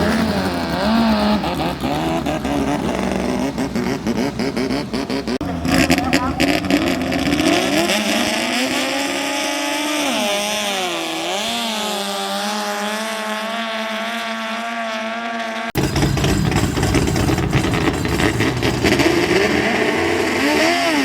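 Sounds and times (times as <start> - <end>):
speedboat engine at high revs: 0.0 - 21.0.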